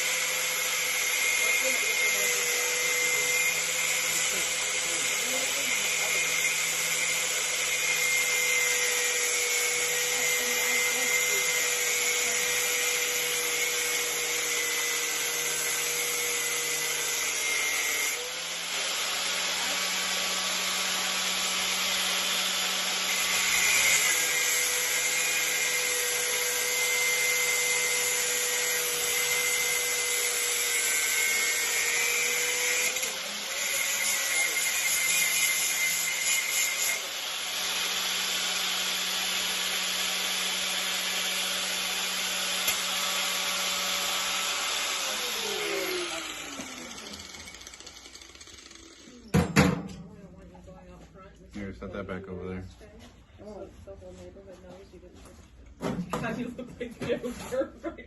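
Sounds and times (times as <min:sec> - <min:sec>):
power tool motor whining: 0:00.0 - 0:49.3.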